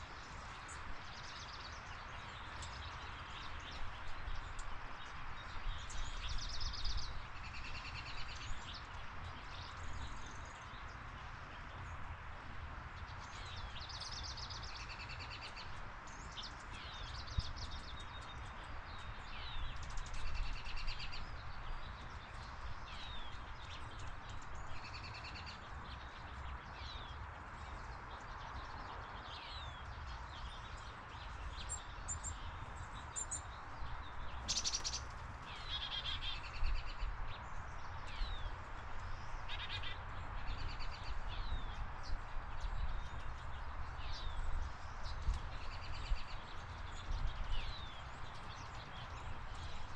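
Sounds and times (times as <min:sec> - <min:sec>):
birds chirping and trilling: 0:00.0 - 0:49.9.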